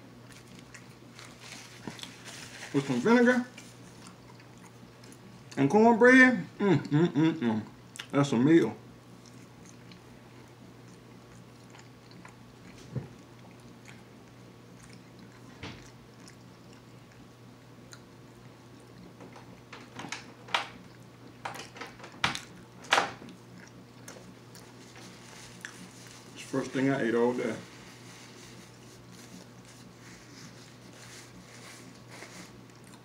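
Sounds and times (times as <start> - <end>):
man chewing fries: 0.0 - 5.8, 6.6 - 8.3, 8.9 - 33.0
faint steady hum: 0.0 - 33.0.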